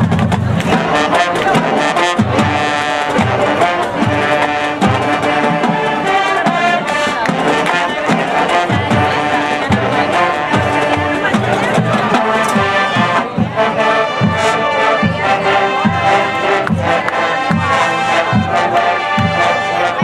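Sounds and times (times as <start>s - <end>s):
low beat: 0.0s - 19.5s
drums: 0.0s - 20.0s
marching band brass: 0.0s - 20.0s.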